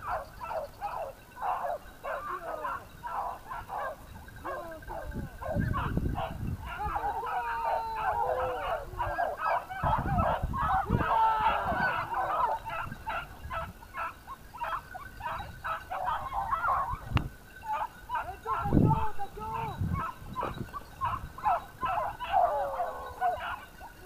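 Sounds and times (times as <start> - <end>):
hounds baying: 0.0 - 24.0.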